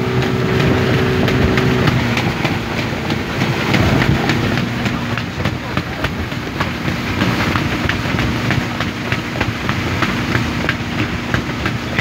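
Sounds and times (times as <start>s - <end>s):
motorboat engine drone: 0.0s - 12.0s.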